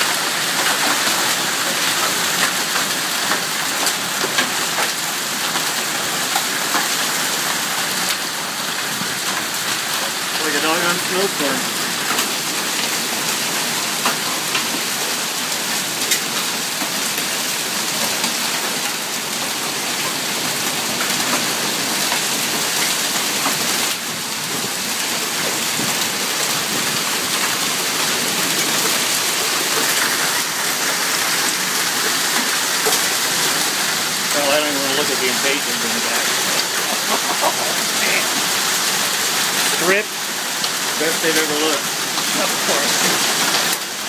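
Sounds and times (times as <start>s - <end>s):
hail and rain pouring: 0.0s - 44.0s
hailstones ticking: 0.0s - 44.0s.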